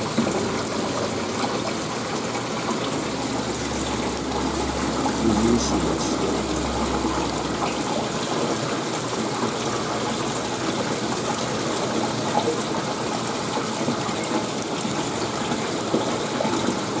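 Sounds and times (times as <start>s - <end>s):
water gushing and bubbling in tank: 0.0s - 17.0s.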